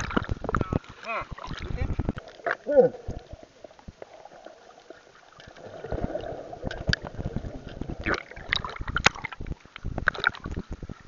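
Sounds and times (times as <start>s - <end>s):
water splashing against camera: 0.0s - 11.0s.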